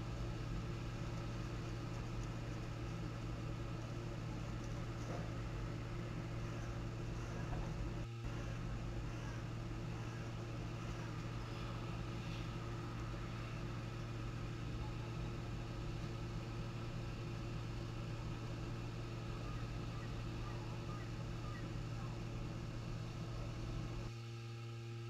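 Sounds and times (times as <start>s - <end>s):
constant hiss: 0.0s - 24.1s
low electrical hum: 0.0s - 25.0s.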